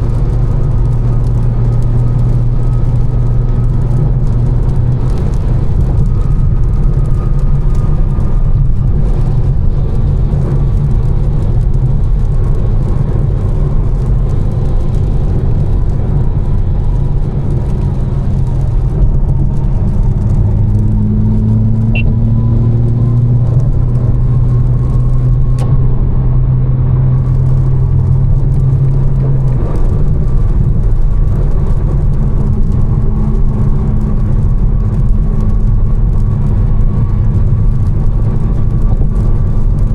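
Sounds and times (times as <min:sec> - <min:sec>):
car engine drone: 0:00.0 - 0:39.9
tyre and road noise: 0:00.0 - 0:39.9.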